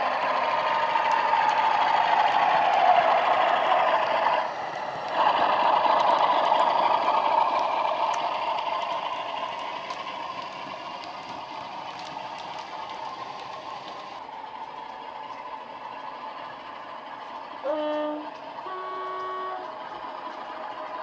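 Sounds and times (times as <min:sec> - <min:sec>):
model train diesel engine sound: 0:00.0 - 0:21.0.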